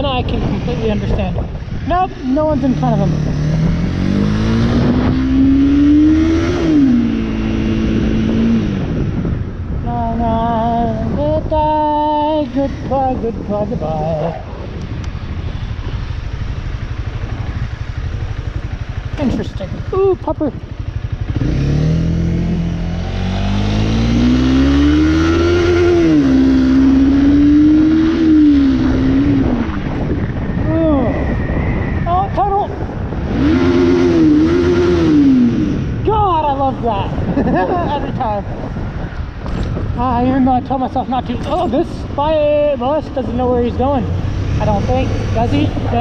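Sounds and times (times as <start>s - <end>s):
motorcycle engine accelerating: 0.0s - 46.0s.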